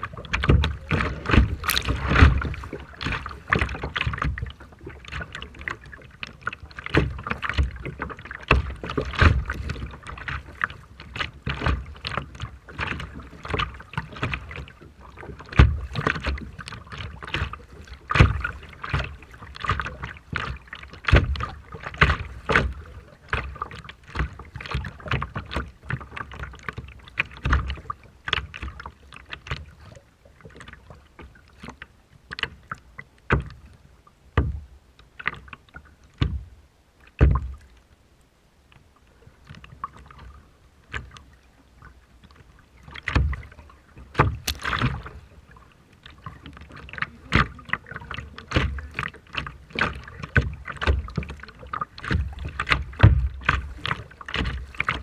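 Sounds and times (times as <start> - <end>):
water splashing against boat: 0.0 - 55.0.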